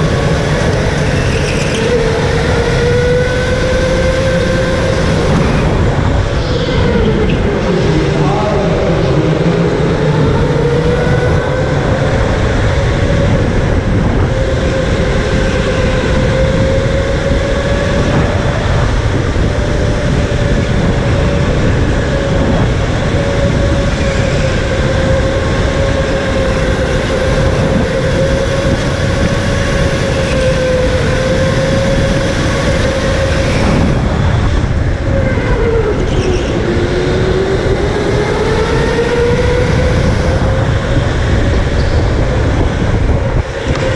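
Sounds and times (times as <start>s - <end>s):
heavy low rumble: 0.0s - 43.9s.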